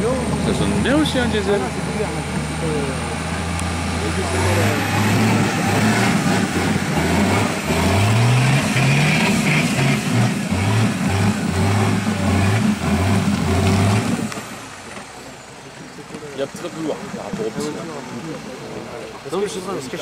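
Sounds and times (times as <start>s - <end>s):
diesel engine revving: 0.0s - 20.0s.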